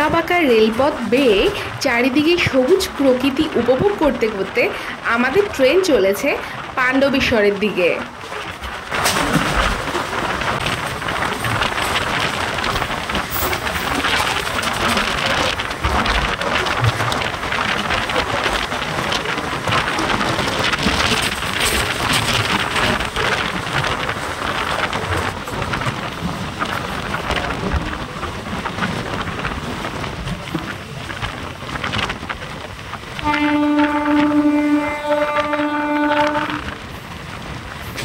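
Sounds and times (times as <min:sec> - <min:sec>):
crackling rattle: 0:00.0 - 0:38.0
train wheels rushing on rails: 0:00.0 - 0:38.0.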